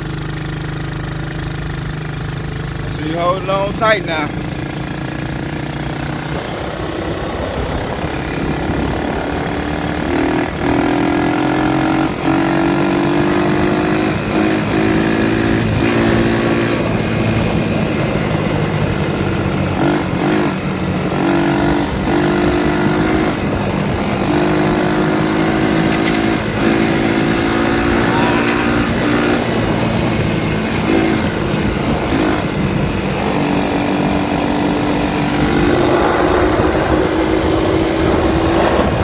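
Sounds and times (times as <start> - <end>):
four-wheeler engine under throttle: 0.0 - 39.0.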